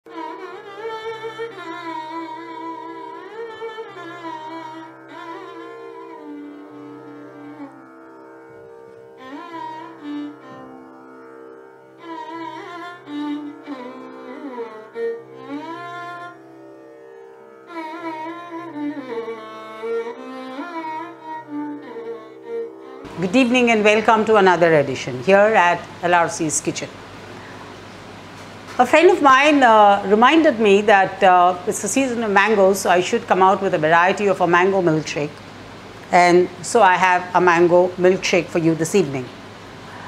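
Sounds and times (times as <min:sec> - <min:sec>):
string instrument melody: 0:00.0 - 0:40.0.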